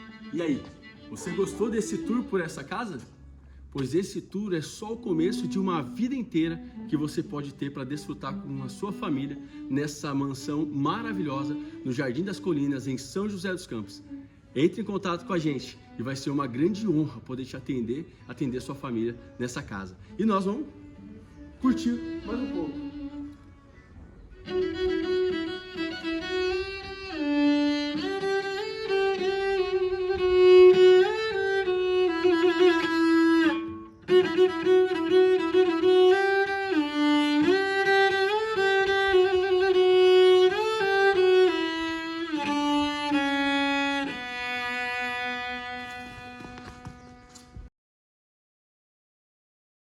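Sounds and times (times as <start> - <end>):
solo cello melody: 0.0 - 17.5, 18.4 - 47.7.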